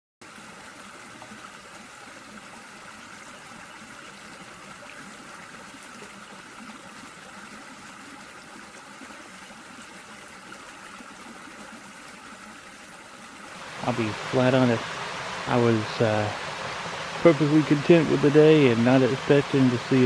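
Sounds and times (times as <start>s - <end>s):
water pouring over waterfall: 0.2s - 20.0s.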